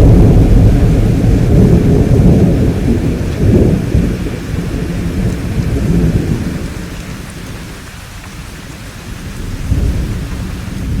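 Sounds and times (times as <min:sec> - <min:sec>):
rolling thunder: 0:00.0 - 0:07.6, 0:09.1 - 0:11.0
steady rainfall: 0:00.0 - 0:11.0.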